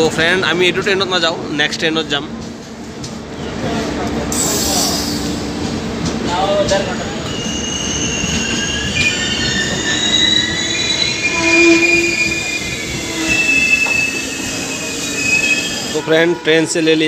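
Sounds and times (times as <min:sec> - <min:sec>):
train rumble: 0:00.0 - 0:17.0
train wheels squealing on rails: 0:03.3 - 0:17.0.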